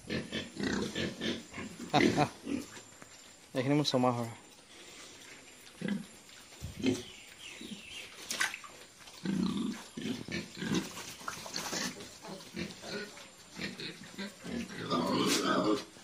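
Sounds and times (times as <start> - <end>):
pigs grunting: 0.0 - 2.9, 5.6 - 16.0.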